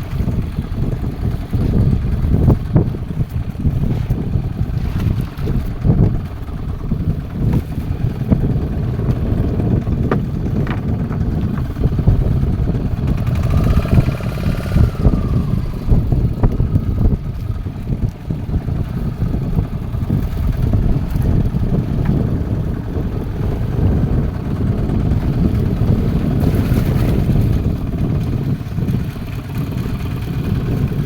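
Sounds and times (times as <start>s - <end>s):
boat engine running: 0.0s - 31.0s
wind buffeting microphone: 0.0s - 31.0s.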